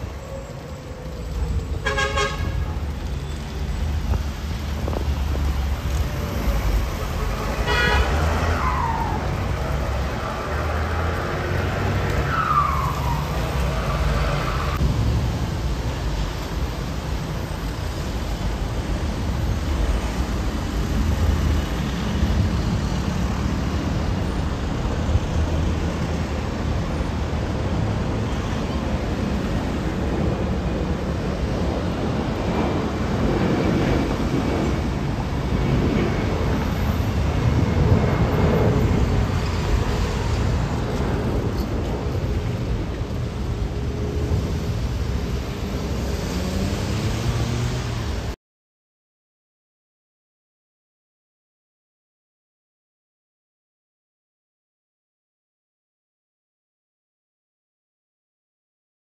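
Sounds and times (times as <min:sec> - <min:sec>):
street traffic rumble: 0:00.0 - 0:48.4.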